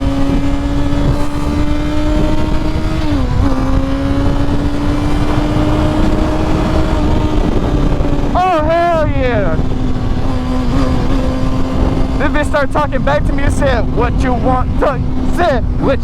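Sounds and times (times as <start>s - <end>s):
motorcycle engine running high pitch: 0.0s - 15.4s
wind rumble: 0.0s - 16.0s.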